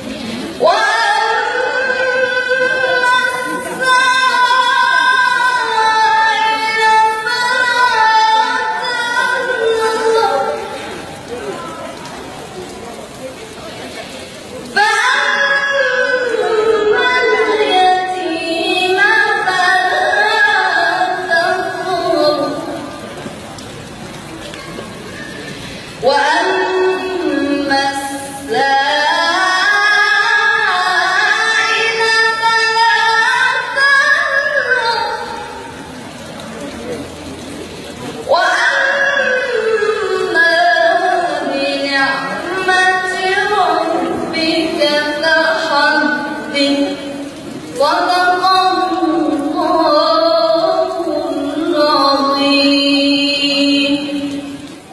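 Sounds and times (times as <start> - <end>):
girl reciting melodically: 0.0 - 10.8, 14.7 - 23.0, 26.0 - 35.7, 38.3 - 54.5.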